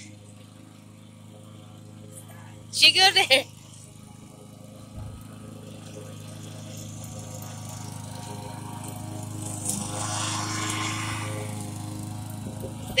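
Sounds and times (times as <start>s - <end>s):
lawn mower engine hum: 0.0s - 13.0s.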